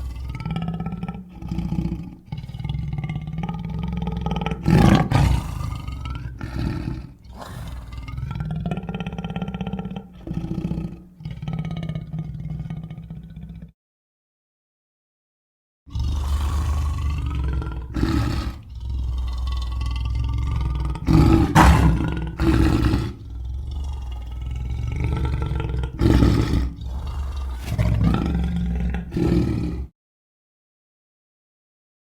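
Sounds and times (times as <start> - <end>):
lion roaring: 0.0 - 13.7, 15.9 - 29.9
lion growling: 0.0 - 13.8, 15.9 - 29.9.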